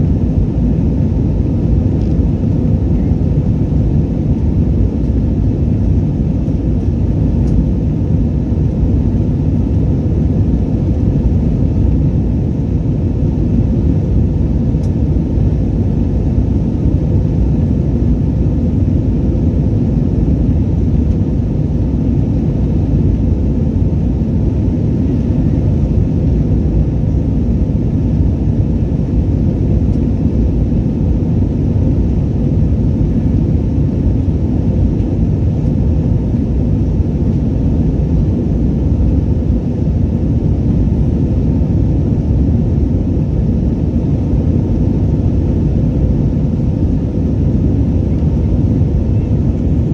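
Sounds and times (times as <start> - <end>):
jet engines in cabin: 0.0 - 49.9.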